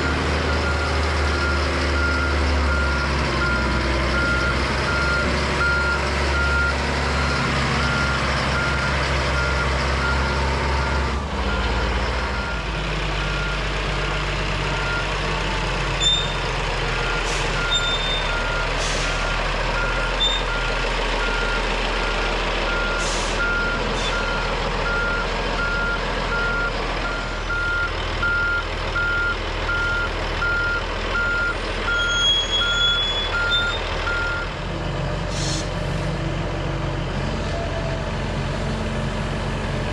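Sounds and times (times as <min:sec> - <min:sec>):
diesel earth-moving machine engine: 0:00.0 - 0:39.9.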